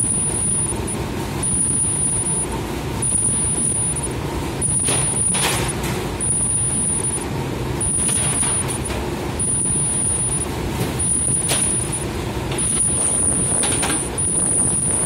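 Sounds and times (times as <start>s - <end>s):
high-pitched whine: 0.0s - 15.0s
machinery hum: 0.0s - 15.0s.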